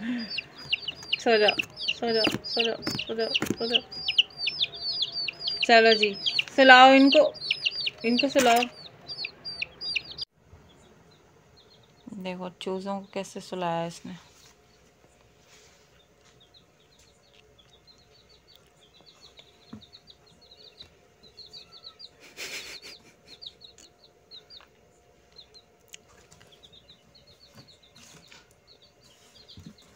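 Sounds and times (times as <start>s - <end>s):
chicks peeping: 0.0s - 29.9s.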